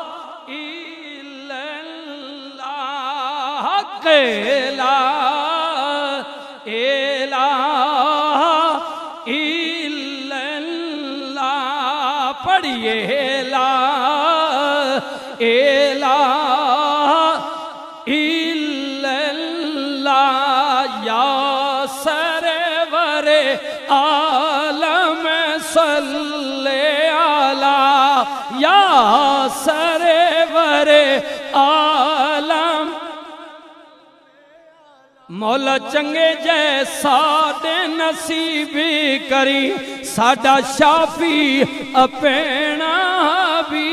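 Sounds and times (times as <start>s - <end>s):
man chanting: 0.0s - 43.9s.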